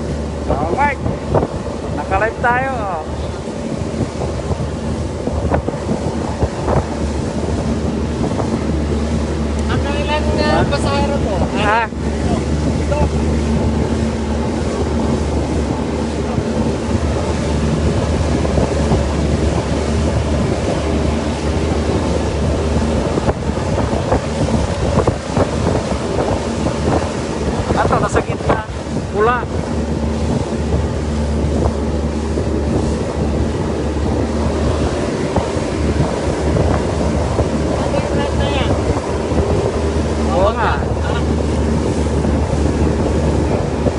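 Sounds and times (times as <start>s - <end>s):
boat engine running: 0.0s - 43.9s
water rushing past hull: 0.0s - 43.9s
wind noise on microphone: 0.0s - 43.9s.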